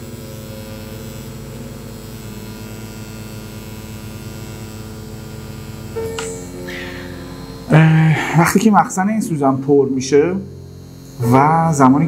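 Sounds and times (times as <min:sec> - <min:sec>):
tattoo machine humming: 0:00.0 - 0:12.0.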